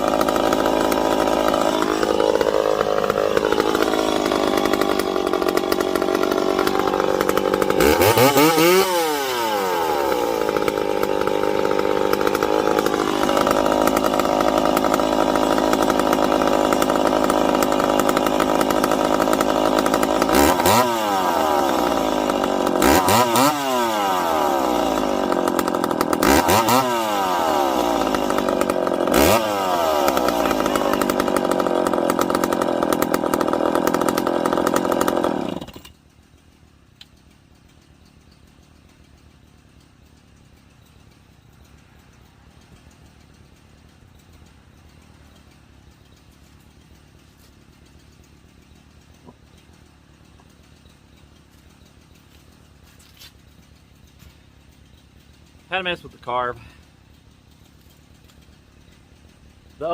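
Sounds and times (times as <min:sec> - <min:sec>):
chainsaw idling and revving: 0:00.0 - 0:36.4, 0:37.0 - 0:59.9.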